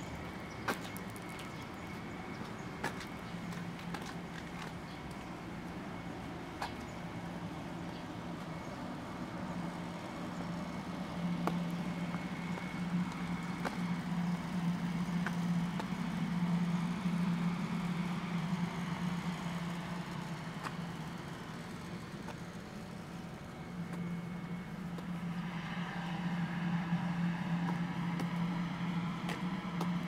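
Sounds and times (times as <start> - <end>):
car engine hum: 0.0 - 30.0.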